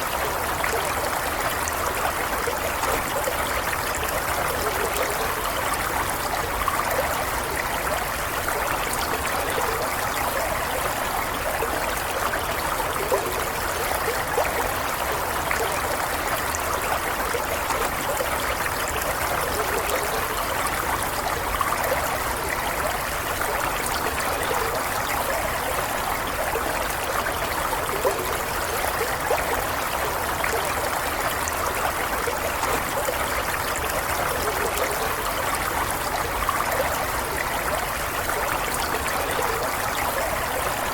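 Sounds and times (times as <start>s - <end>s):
stream water flowing over stones: 0.0s - 40.9s.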